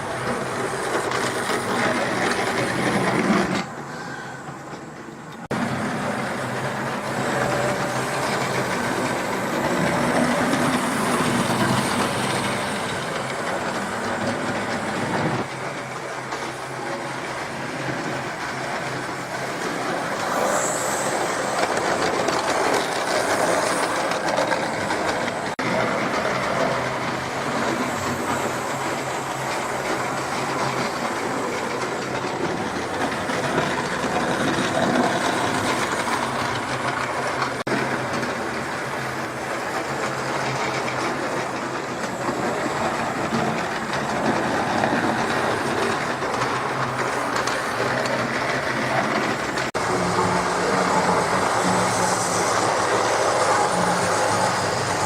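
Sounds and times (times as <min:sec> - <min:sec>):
model train motor whirring: 0:05.4 - 0:55.0.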